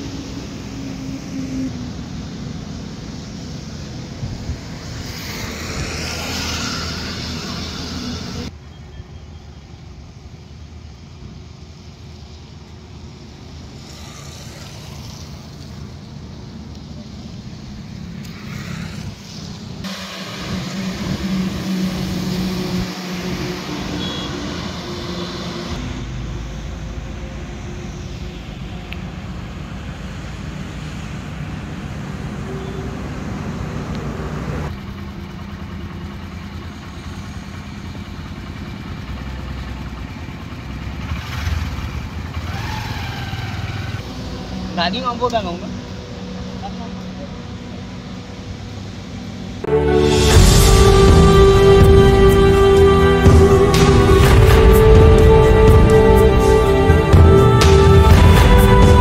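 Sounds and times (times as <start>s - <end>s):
rumble of passing vehicles: 0.0s - 59.0s.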